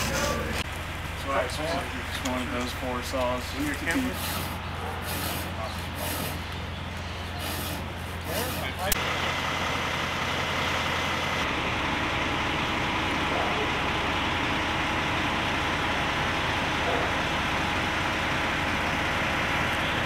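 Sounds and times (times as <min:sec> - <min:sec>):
diesel truck engines passing: 0:00.0 - 0:20.0.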